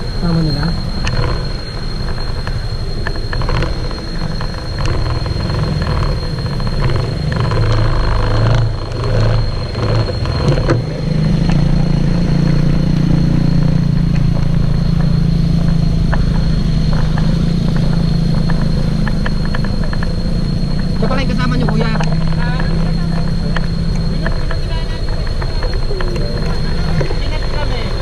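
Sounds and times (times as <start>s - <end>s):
loud engine hum: 0.0s - 28.0s
vehicle engine rumbling: 0.0s - 28.0s.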